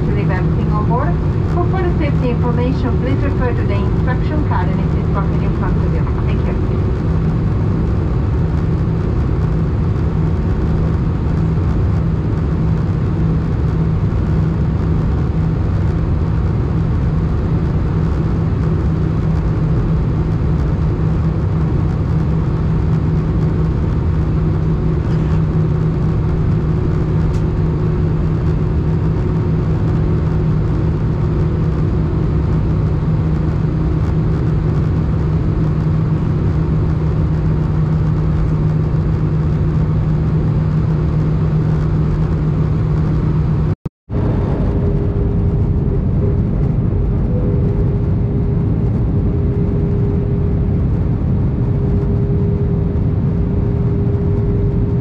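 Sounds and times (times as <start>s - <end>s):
jet engines droning: 0.0s - 55.0s
low cabin hum: 0.0s - 55.0s.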